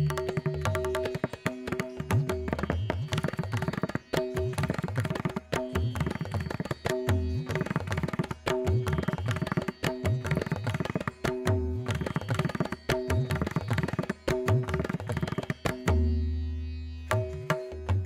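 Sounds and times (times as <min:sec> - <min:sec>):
hand drum music: 0:00.0 - 0:16.1.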